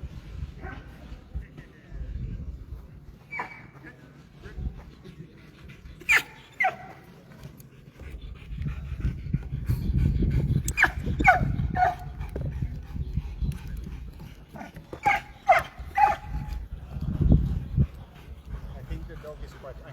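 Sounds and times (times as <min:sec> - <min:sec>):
dog panting: 0:03.2 - 0:19.9.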